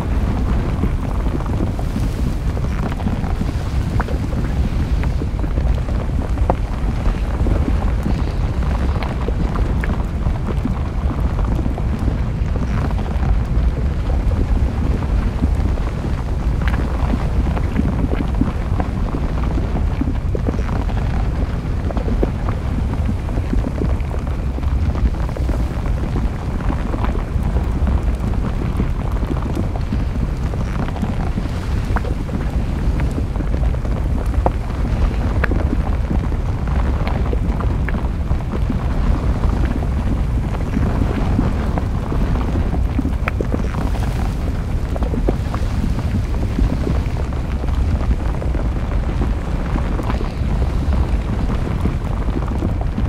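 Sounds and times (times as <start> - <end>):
low rumble of eruption: 0.0 - 53.0
sharp crackles and pops: 0.0 - 53.0.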